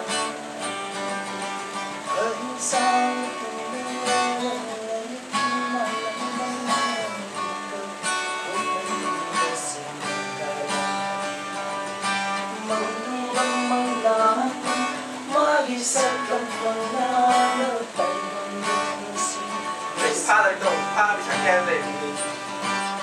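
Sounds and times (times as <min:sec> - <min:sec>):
acoustic guitar strumming chords: 0:00.0 - 0:23.0
man singing: 0:02.0 - 0:11.7, 0:12.3 - 0:22.5.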